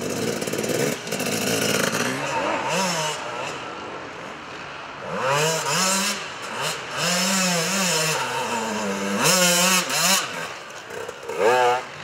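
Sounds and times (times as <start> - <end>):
dirt bike engine revving: 0.0 - 3.8, 5.0 - 12.0.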